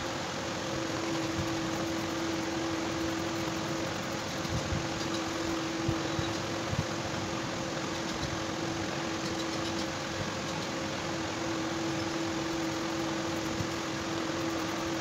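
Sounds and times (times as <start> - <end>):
machine humming and hissing: 0.0 - 15.0.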